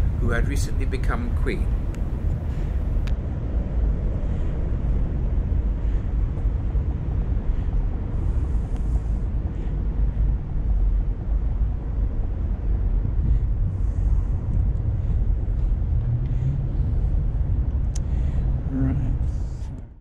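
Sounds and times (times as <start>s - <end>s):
distant city traffic rumble: 0.0s - 20.0s.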